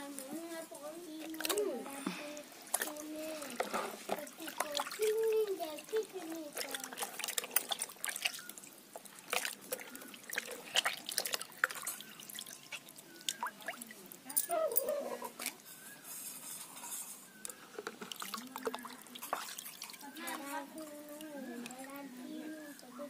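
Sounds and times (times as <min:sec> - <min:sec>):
water sloshing in a plastic bucket: 0:00.0 - 0:14.6, 0:17.2 - 0:23.0
water dripping: 0:00.0 - 0:14.8, 0:17.4 - 0:23.0.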